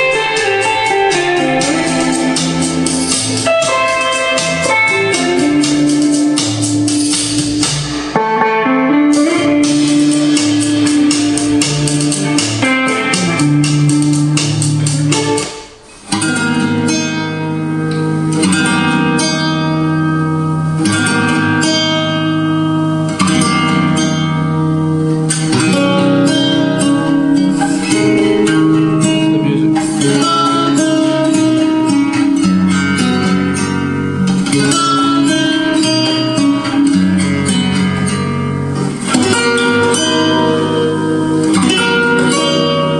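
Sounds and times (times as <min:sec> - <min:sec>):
guitar music through speakers: 0:00.0 - 0:42.9.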